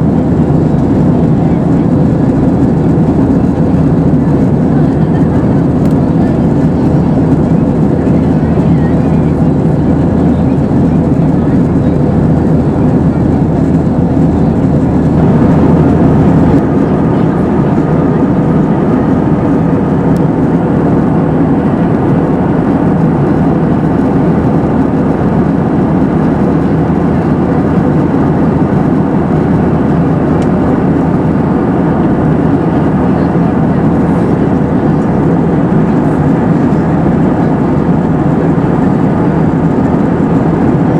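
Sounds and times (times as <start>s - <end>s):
airplane cabin roar in flight: 0.0s - 40.9s.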